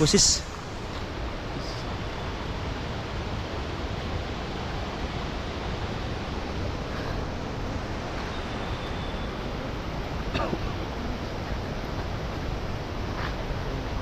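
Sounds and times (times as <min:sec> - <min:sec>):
steady rushing noise outdoors: 0:00.0 - 0:14.0.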